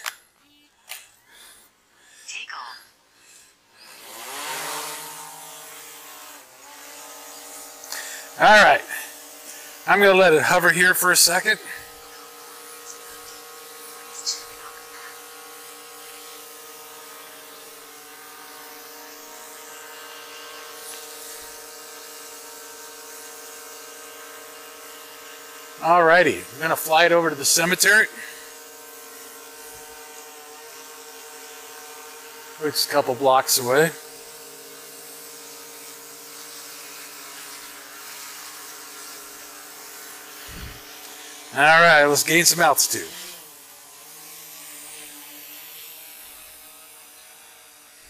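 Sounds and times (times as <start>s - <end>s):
drone propeller buzz: 3.2s - 48.0s.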